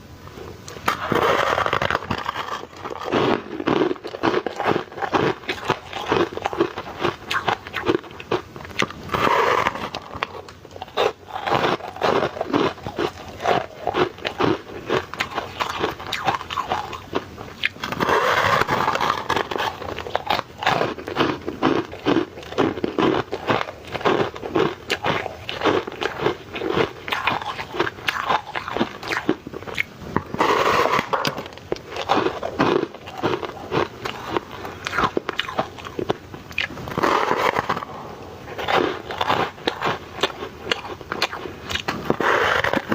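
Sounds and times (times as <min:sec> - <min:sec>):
ice being chewed: 0:00.3 - 0:42.9.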